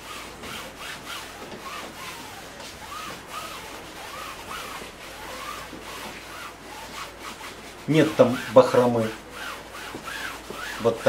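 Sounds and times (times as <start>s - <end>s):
hand smearing wet paint: 0.0s - 11.0s
skin squeaking on paint: 0.1s - 11.0s.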